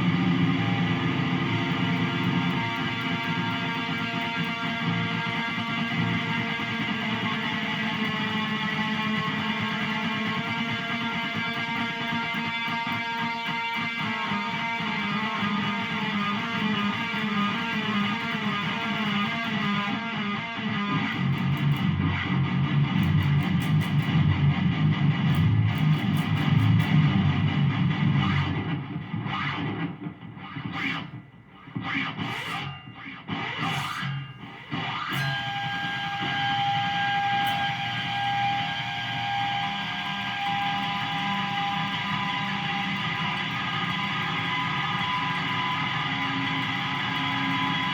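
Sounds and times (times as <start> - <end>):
distorted electric guitar riffing: 0.0 - 47.9.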